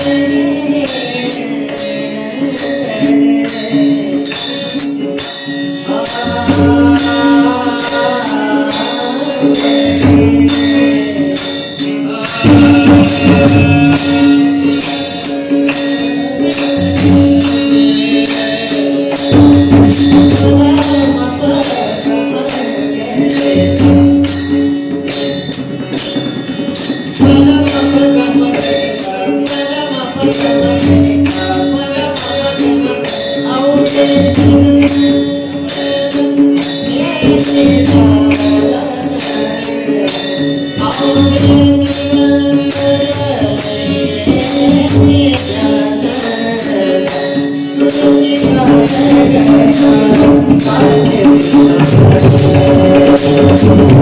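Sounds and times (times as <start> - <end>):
man singing: 0.0 - 25.3, 27.1 - 54.0.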